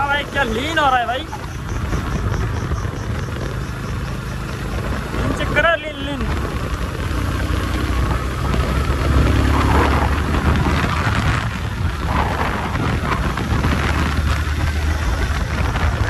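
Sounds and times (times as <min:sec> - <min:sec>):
motorcycle engine drone: 0:00.0 - 0:16.0
wind rushing across microphone: 0:00.0 - 0:16.0.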